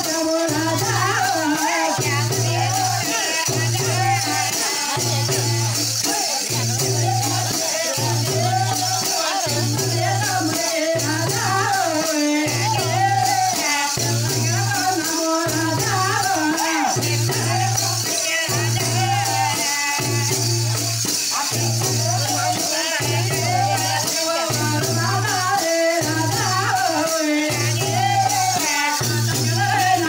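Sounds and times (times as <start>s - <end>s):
high shaker rattle: 0.0s - 30.0s.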